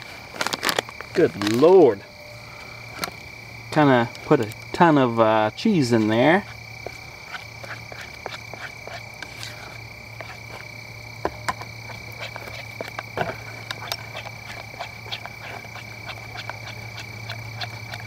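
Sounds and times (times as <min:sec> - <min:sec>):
frogs croaking: 0:00.0 - 0:18.0
high-pitched insect drone: 0:00.4 - 0:18.0.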